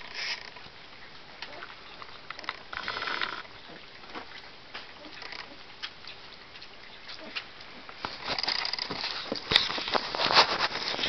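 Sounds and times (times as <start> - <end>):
puppies lapping and slurping: 0.0 - 11.0.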